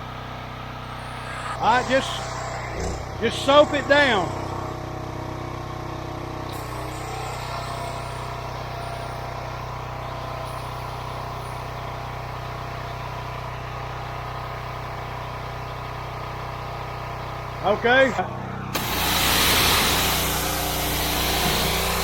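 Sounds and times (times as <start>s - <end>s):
pressure washer engine drone: 0.0s - 22.0s.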